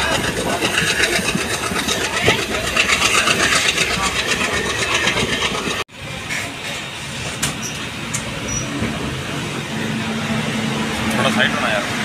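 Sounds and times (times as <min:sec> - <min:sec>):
passenger train running: 0:00.0 - 0:12.0.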